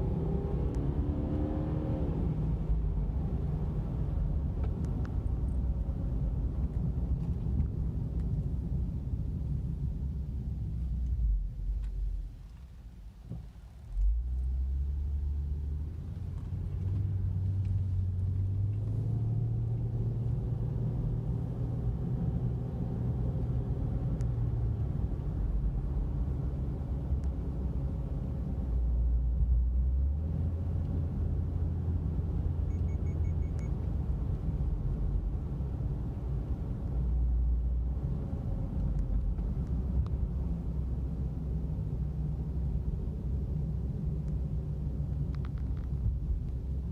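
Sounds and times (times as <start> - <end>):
car engine and exhaust: 0.0 - 46.9
road noise: 0.0 - 46.9.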